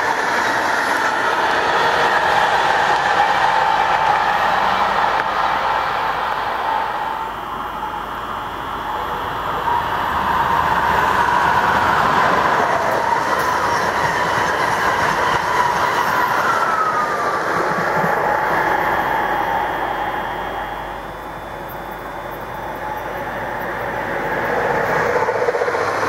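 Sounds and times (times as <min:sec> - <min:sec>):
high-speed train rushing past: 0:00.0 - 0:26.0.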